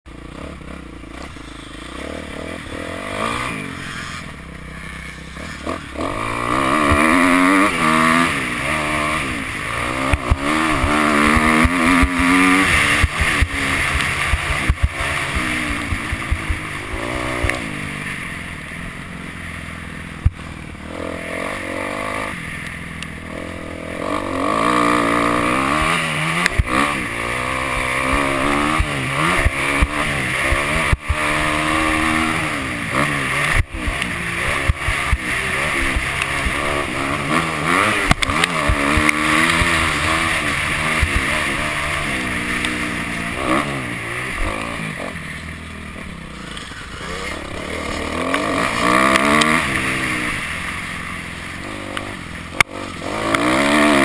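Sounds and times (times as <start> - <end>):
motocross bike engine revving: 0.1 - 54.0.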